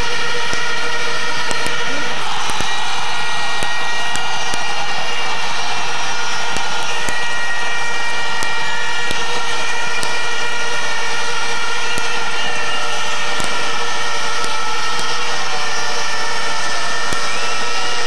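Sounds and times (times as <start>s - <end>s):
plastic trumpets droning: 0.0s - 18.0s
sharp clicks: 0.0s - 18.0s
stadium crowd cheering: 0.0s - 18.0s.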